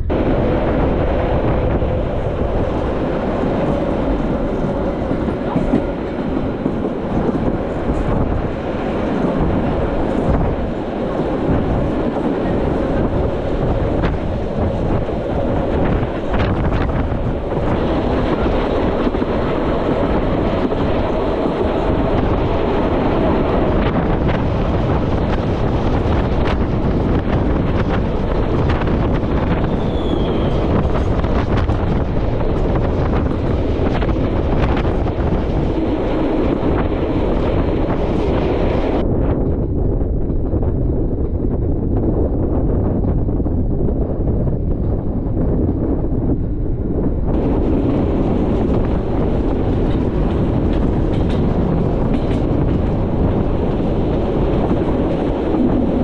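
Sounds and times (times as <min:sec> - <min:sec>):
train wheels rumbling on rail: 0:00.0 - 0:56.0
wind on microphone: 0:00.0 - 0:56.0.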